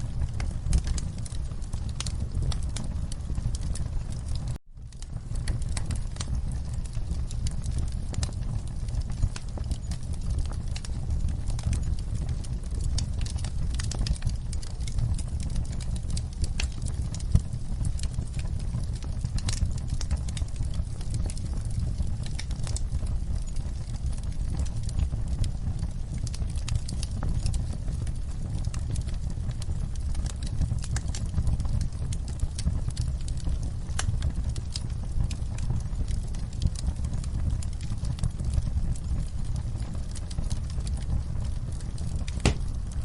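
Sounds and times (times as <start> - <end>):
fire crackling and popping: 0.0 - 43.0
fire rumbling in fireplace: 0.0 - 43.0.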